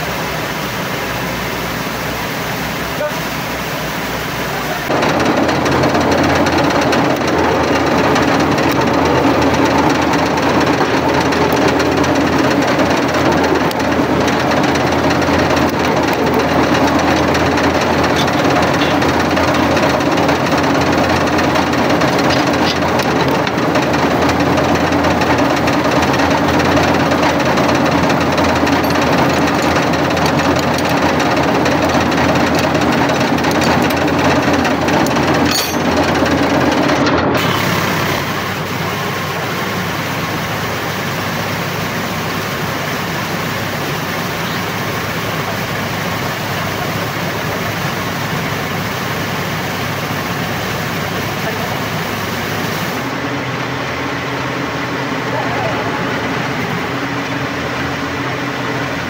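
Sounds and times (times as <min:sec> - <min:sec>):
drilling rig running: 0:00.0 - 0:59.0.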